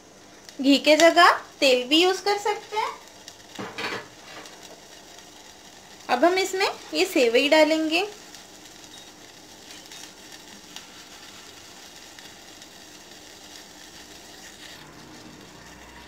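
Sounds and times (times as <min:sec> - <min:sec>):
water boiling in pot: 0:00.0 - 0:16.0.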